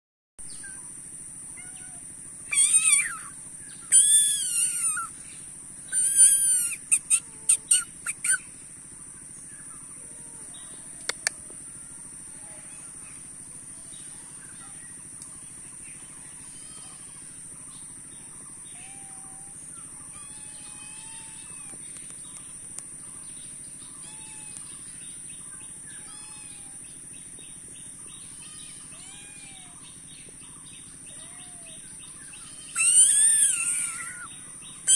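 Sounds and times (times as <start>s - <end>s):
high insect drone: 0.5s - 34.9s
loud bird calls: 0.5s - 34.9s
soft bird chirps: 1.6s - 34.9s.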